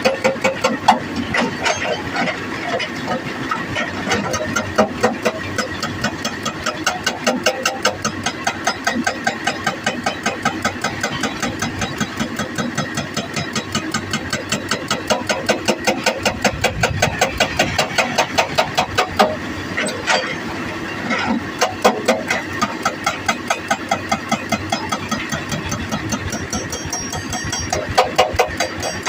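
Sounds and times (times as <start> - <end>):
excavator diesel engine: 0.0 - 29.0
hydraulic rock breaker hammering: 0.0 - 29.0.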